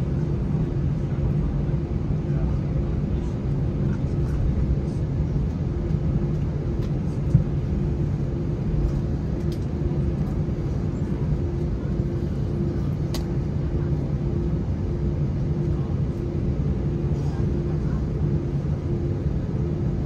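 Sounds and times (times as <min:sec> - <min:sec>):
aircraft cabin hum: 0:00.0 - 0:20.0.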